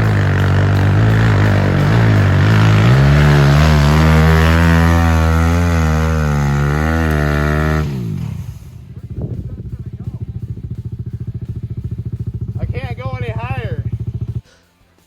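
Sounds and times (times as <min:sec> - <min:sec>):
motorbike engine revving hard: 0:00.0 - 0:14.5.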